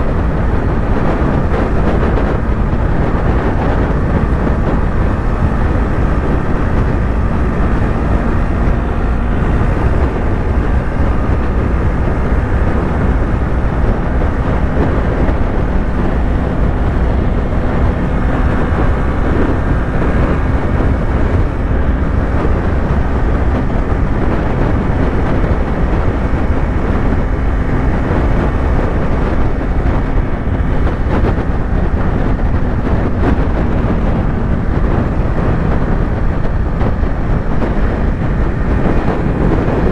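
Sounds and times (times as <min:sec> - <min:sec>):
heavy wind: 0:00.0 - 0:39.9
motorcycle engine cruising: 0:00.0 - 0:39.9
road rush: 0:00.0 - 0:39.9.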